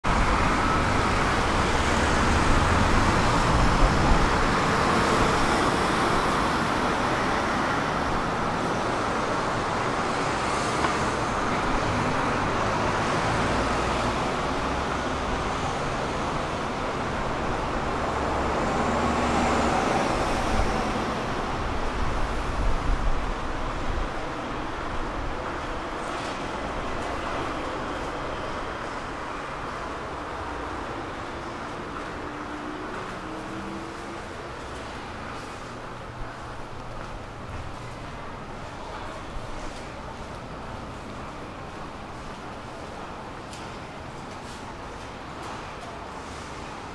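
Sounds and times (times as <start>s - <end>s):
city road traffic: 0.0s - 46.9s.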